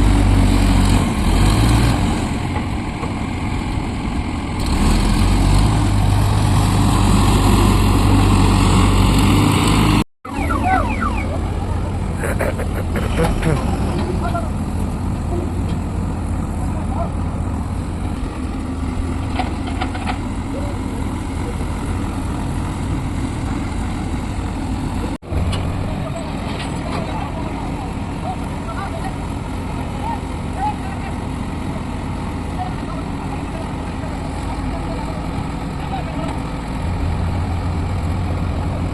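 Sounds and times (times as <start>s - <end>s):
heavy diesel engine humming: 0.0s - 38.9s.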